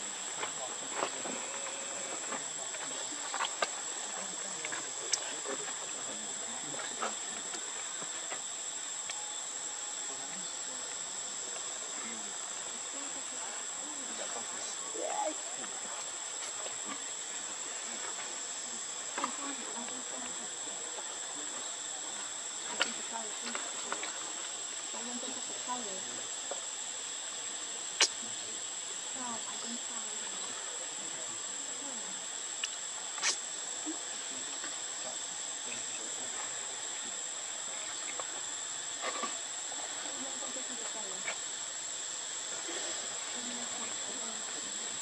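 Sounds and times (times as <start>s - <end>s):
constant hiss: 0.0s - 45.0s
insect drone: 0.0s - 45.0s.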